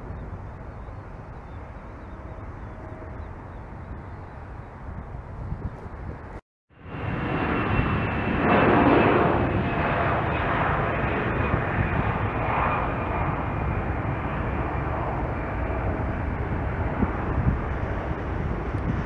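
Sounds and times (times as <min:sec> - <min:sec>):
jet engine rumble and whine: 0:00.0 - 0:19.0.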